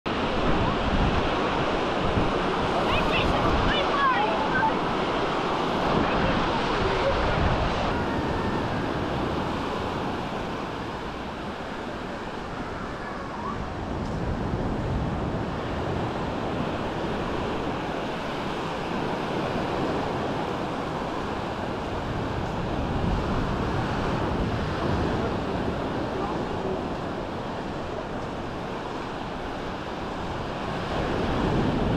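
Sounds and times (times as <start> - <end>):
small waves on sandy beach: 0.1 - 31.9
wind buffeting microphone: 0.1 - 31.9.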